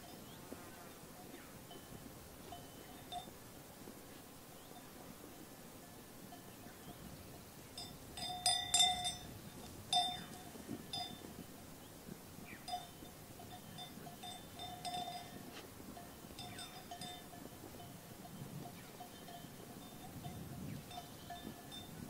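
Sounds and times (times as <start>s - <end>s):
sheep bells clanking: 0.0s - 0.5s, 1.2s - 3.4s, 5.8s - 11.4s, 12.5s - 22.0s.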